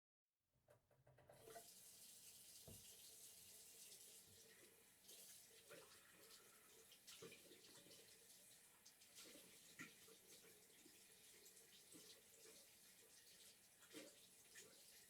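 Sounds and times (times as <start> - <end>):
tap water running into sink: 1.1 - 15.0
water splashes from hand washing: 1.3 - 15.0.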